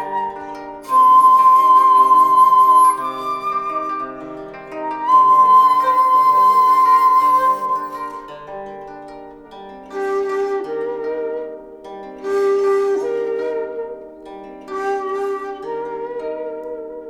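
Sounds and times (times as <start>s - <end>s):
flute-like melody: 0.0s - 17.0s
plucked-string accompaniment: 0.0s - 17.0s.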